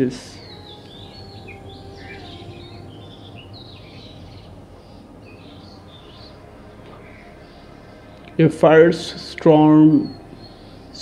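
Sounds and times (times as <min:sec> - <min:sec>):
faint steady hum: 0:00.0 - 0:11.0
small birds chirping: 0:00.0 - 0:11.0.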